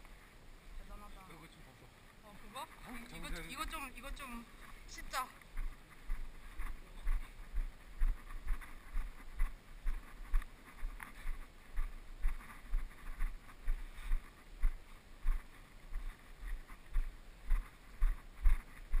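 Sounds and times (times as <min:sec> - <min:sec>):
walking footsteps: 0:02.0 - 0:19.0.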